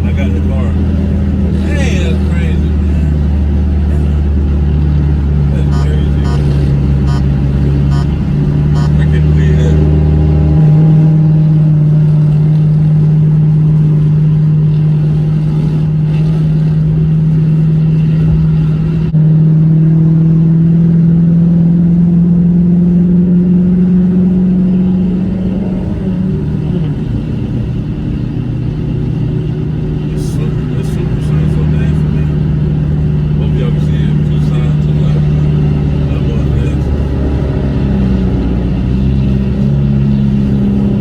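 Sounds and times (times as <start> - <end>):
car engine droning: 0.0 - 19.1, 20.2 - 41.0.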